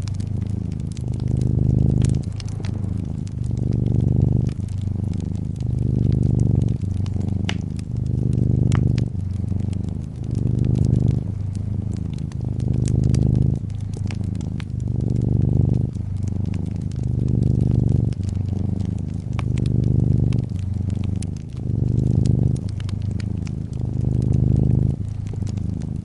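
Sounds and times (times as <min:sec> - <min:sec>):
cat purring: 0:00.0 - 0:26.0
fireplace crackling: 0:00.0 - 0:26.0.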